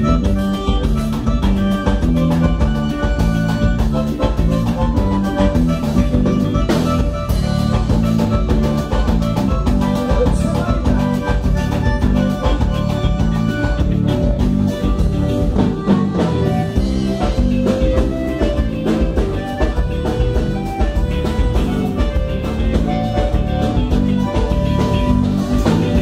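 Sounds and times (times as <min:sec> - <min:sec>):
drum kit steady beat: 0:00.0 - 0:26.0
held melody notes: 0:00.0 - 0:26.0
repeating bass line: 0:00.0 - 0:26.0.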